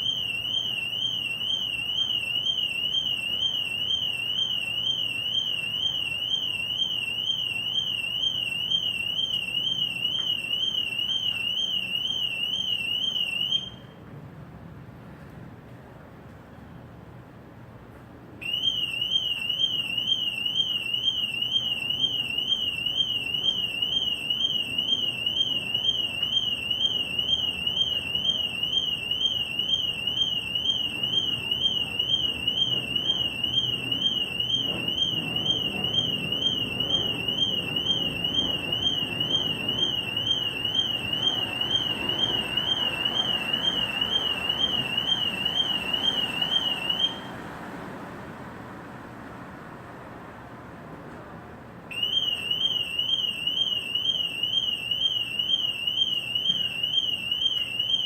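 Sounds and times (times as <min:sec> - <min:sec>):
car alarm siren warbling: 0:00.0 - 0:14.0, 0:18.4 - 0:47.4, 0:51.9 - 0:58.0.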